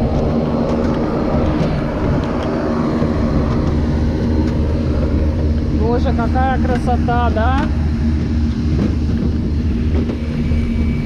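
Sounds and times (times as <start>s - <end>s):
machinery drone with low hum: 0.0s - 11.0s.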